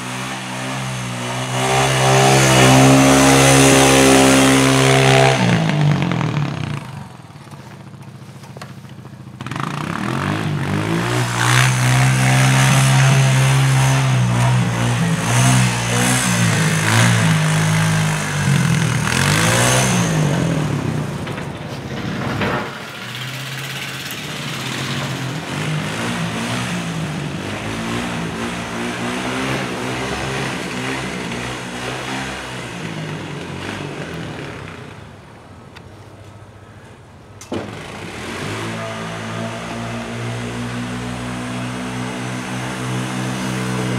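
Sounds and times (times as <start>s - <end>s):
plow blade pushing snow: 0.0s - 35.2s, 37.4s - 43.9s
quad bike engine revving: 0.0s - 35.2s, 37.4s - 43.9s.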